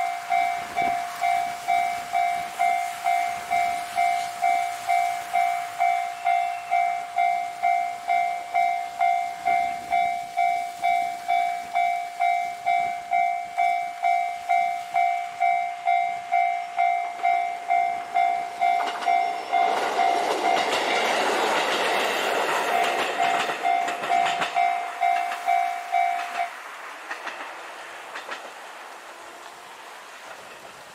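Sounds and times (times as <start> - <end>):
warning bell ringing: 0.0 - 26.5
train rumbling past: 0.0 - 30.9.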